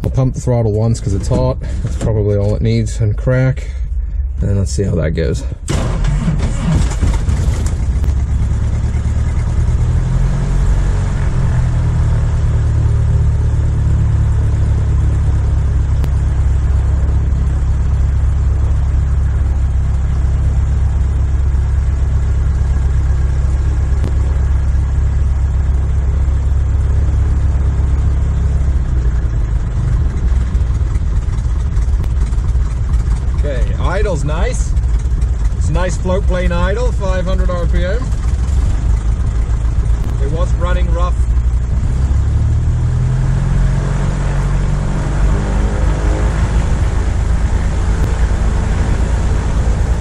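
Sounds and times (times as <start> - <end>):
light aircraft engine and propeller: 5.7 - 50.0.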